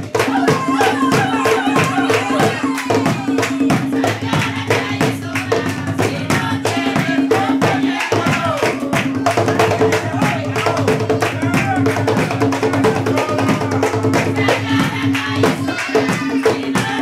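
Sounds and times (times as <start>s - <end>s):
hand drums beaten: 0.0s - 17.0s
voices singing: 0.0s - 17.0s.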